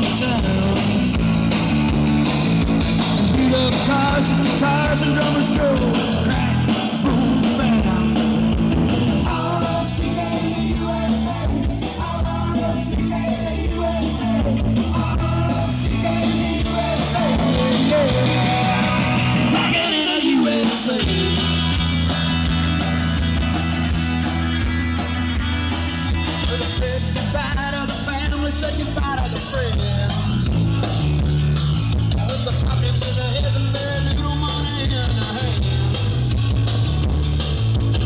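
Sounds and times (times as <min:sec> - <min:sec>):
loud pop music with singing: 0:00.0 - 0:38.0.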